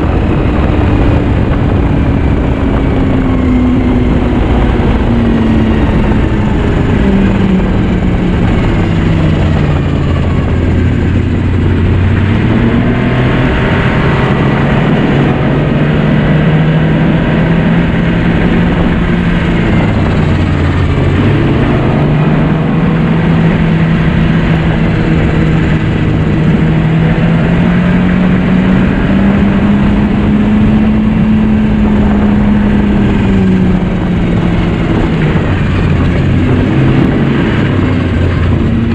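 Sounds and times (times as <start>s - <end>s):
rush of track and air noise: 0.0s - 38.9s
snowmobile engine running: 0.0s - 38.9s.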